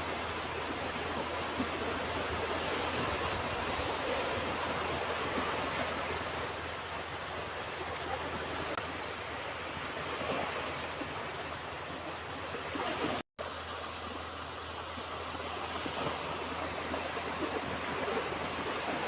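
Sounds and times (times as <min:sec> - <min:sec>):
ocean surf on a beach: 0:00.0 - 0:19.0.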